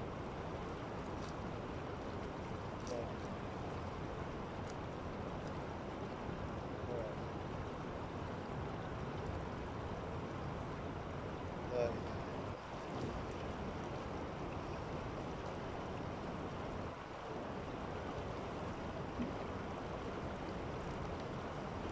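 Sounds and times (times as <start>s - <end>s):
river running over rocks: 0.0s - 21.9s.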